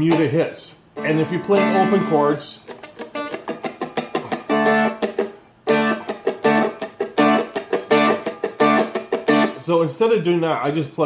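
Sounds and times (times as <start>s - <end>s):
guitar strumming reggae rhythm: 0.0s - 9.6s.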